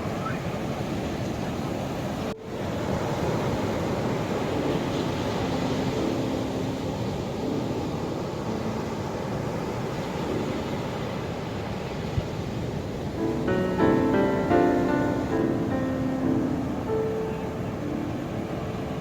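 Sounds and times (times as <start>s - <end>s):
ocean waves washing onto shore: 0.0s - 19.0s.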